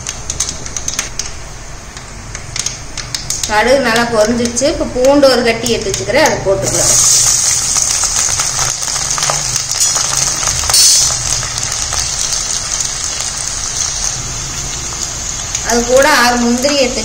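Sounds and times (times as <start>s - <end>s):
garlic sizzling in hot oil: 2.6s - 17.0s.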